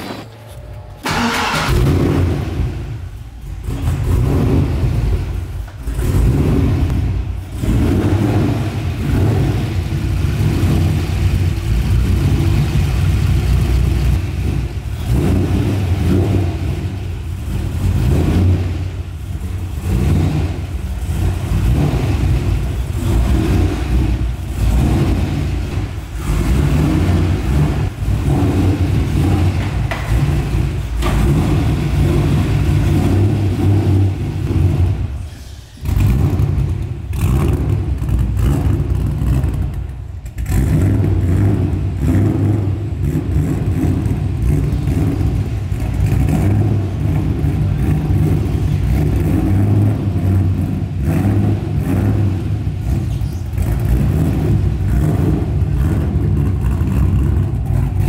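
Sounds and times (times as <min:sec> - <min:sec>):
car engine revving unevenly: 0:00.0 - 0:58.0.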